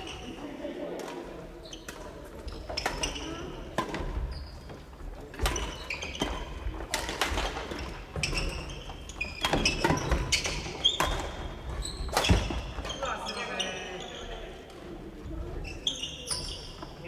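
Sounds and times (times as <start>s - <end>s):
sneaker squeaks on court floor: 1.6s - 14.5s, 15.6s - 17.0s.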